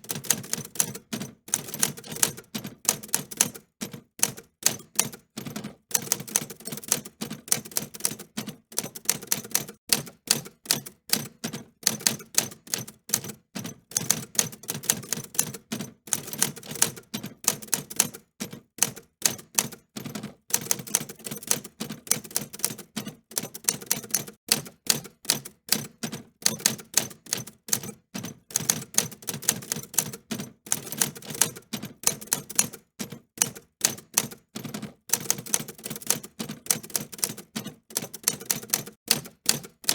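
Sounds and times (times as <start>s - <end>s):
typewriter keys clacking: 0.0s - 39.9s.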